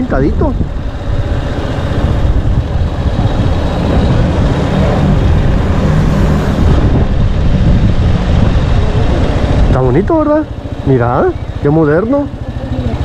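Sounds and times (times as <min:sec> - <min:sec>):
wind rumbling on microphone: 0:00.0 - 0:11.6
motorcycle engine running: 0:00.0 - 0:13.0.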